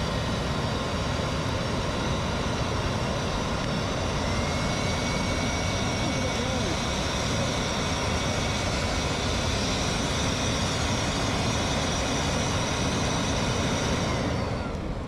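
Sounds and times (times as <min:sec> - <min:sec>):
blower motor whining: 0:00.0 - 0:15.0.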